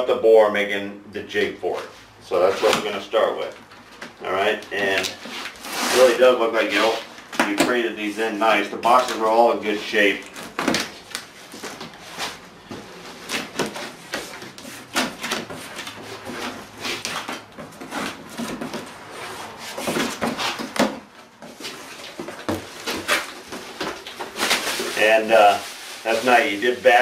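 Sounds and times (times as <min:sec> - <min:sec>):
cardboard flaps rubbing and scraping: 0:01.7 - 0:03.2, 0:04.4 - 0:07.8, 0:08.8 - 0:27.0.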